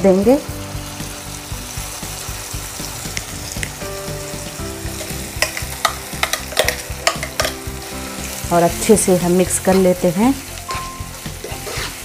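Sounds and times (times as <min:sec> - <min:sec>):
chutney sizzling in hot oil: 0:00.0 - 0:12.0.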